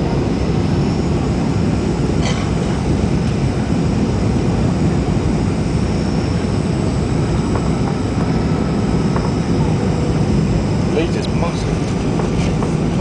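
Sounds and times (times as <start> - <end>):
airplane cabin jet rumble: 0.0 - 13.0.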